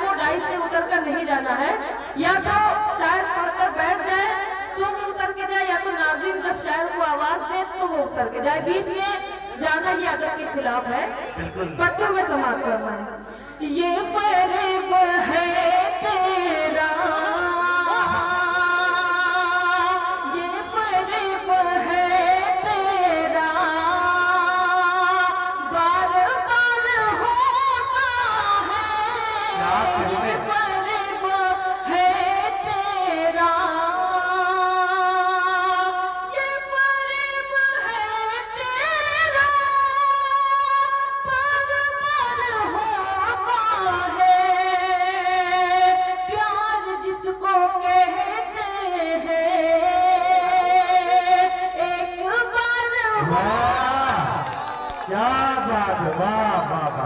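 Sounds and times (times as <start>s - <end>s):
woman singing into a microphone: 0.0s - 54.9s.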